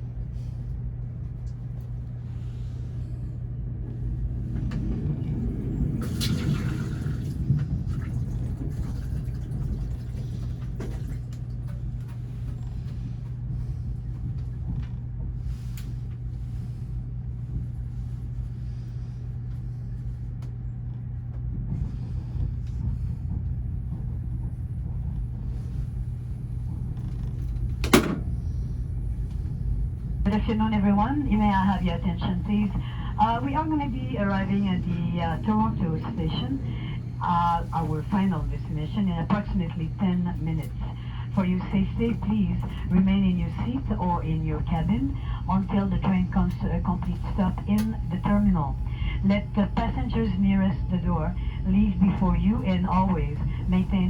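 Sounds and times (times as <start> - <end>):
constant low hum: 0.0 - 54.0
train rumbling along track: 0.0 - 54.0.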